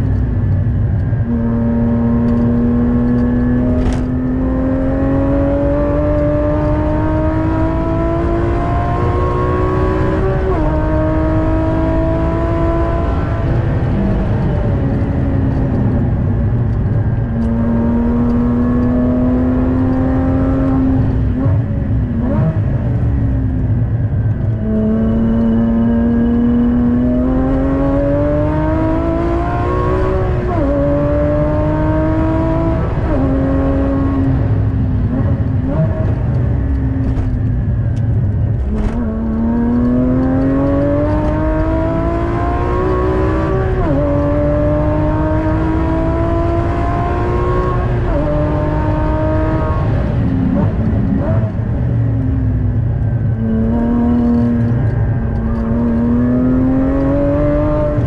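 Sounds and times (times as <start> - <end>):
car engine accelerating: 0.0 - 58.0
road and wind rumble: 0.0 - 58.0.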